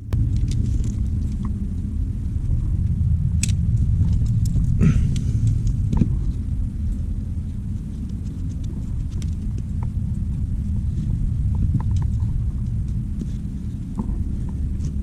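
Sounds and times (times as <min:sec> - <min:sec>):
low microphone rumble: 0:00.0 - 0:15.0.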